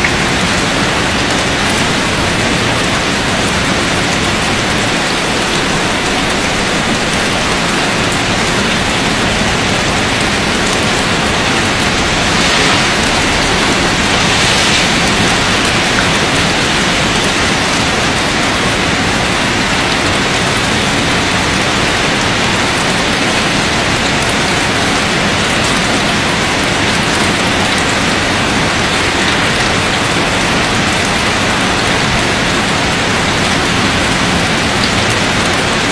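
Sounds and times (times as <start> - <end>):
heavy rain drumming: 0.0 - 35.9.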